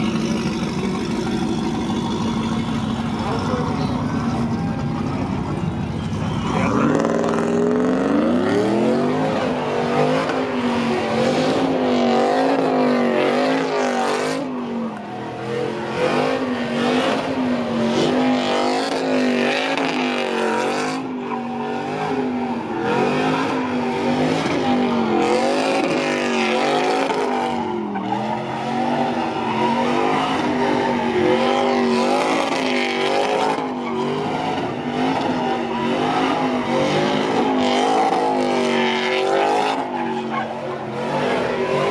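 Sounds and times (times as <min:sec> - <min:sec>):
spinning tyres squealing: 0:00.0 - 0:41.9
truck engine at high revs: 0:00.0 - 0:41.9.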